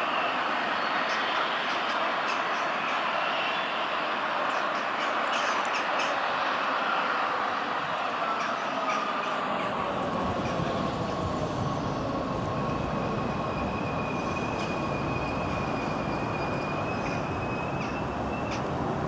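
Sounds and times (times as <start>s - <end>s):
electric train rumble: 0.0s - 19.0s
high-pitched train whine: 0.0s - 19.0s.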